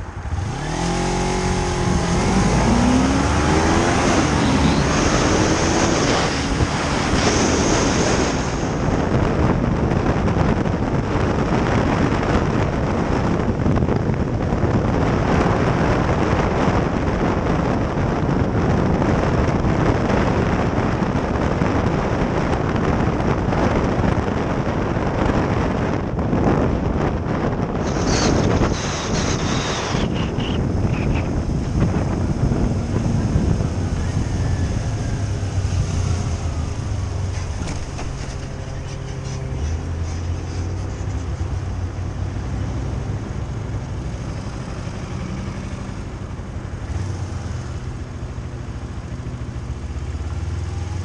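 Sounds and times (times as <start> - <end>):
vehicle engine: 0.0 - 51.0
wind buffeting microphone: 0.0 - 51.0.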